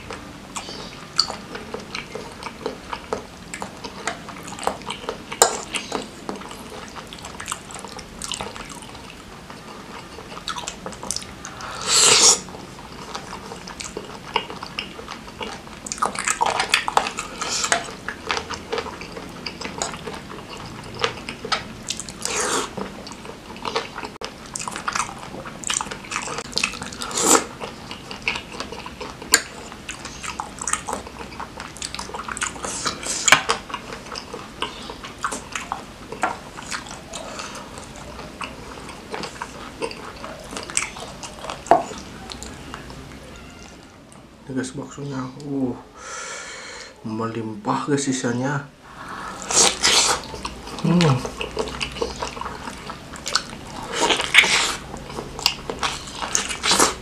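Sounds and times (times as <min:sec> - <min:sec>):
close chewing mouth sounds: 0:00.0 - 0:44.3, 0:48.9 - 0:57.0.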